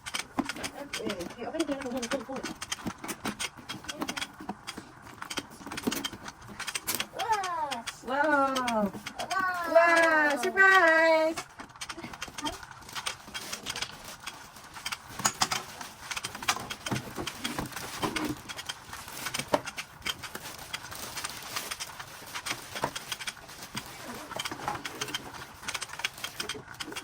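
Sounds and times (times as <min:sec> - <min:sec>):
packaging rustling and crinkling: 0:00.0 - 0:27.0.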